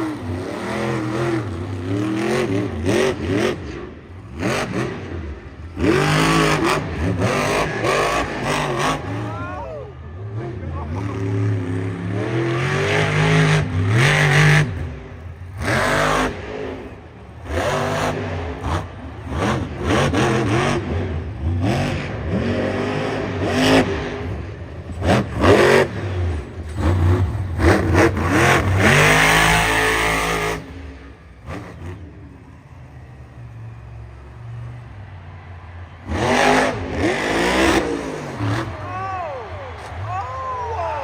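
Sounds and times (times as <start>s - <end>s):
monster truck engine revving: 0.0s - 40.1s.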